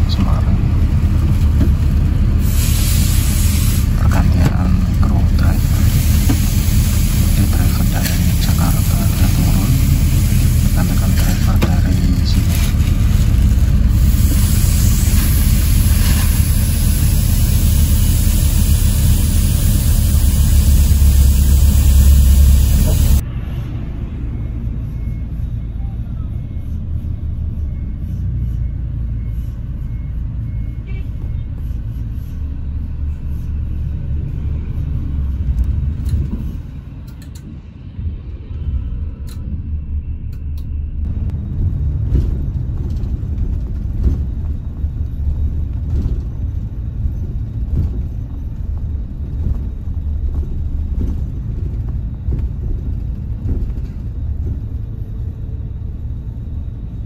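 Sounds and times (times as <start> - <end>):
coach engine and road rumble: 0.0 - 57.0.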